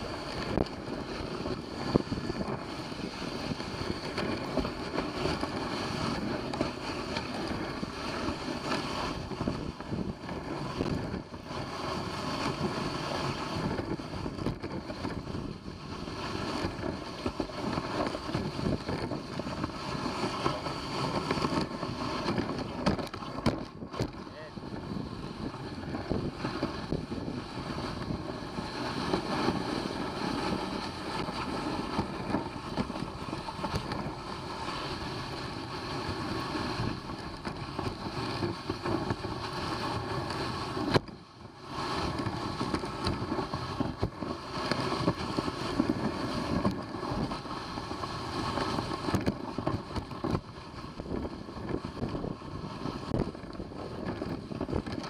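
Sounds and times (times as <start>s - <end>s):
dog sled rushing along trail: 0.0s - 55.0s
wind on microphone: 0.0s - 55.0s.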